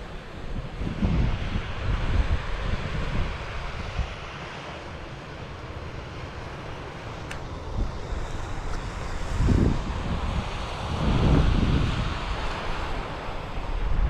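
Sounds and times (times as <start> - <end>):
wind buffeting microphone: 0.0 - 5.1, 6.4 - 14.0.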